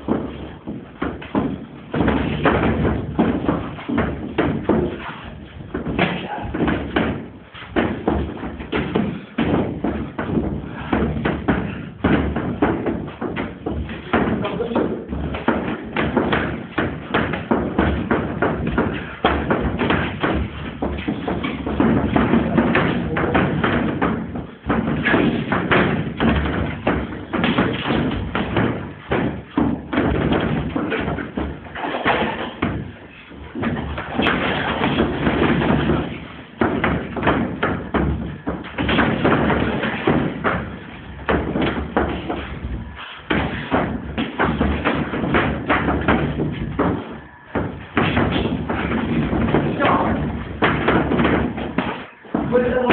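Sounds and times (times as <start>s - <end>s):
sparring strikes thudding and slapping: 0.0s - 52.9s.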